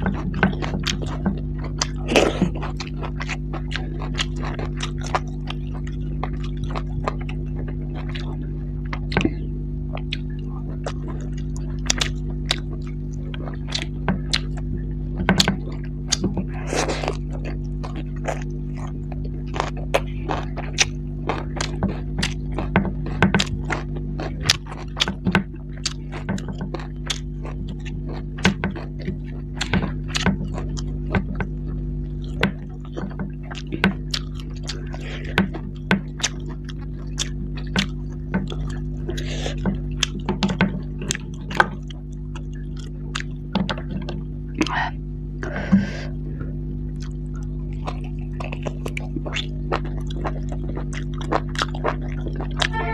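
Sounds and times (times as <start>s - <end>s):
wet chewing and lip smacking: 0.0s - 46.0s, 46.9s - 52.9s
steady low hum: 0.0s - 52.9s.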